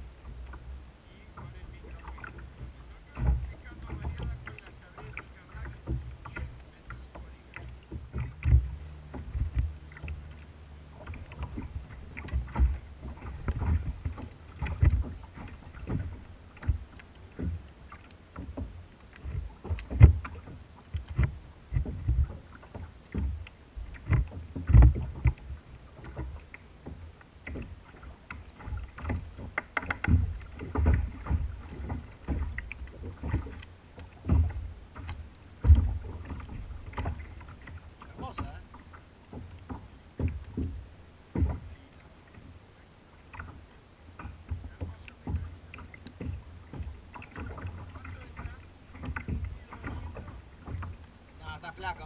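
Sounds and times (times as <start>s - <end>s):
waves slapping against a hull: 0.0s - 52.0s.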